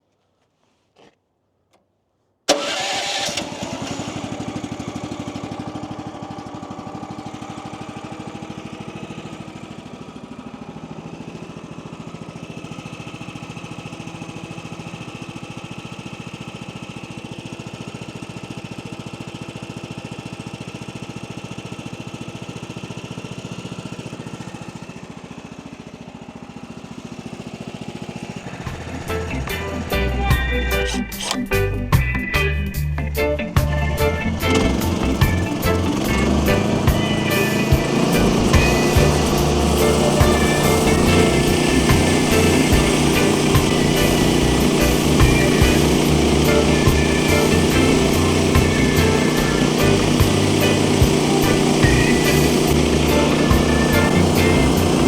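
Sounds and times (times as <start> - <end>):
sawmill engine running: 2.5 - 55.0.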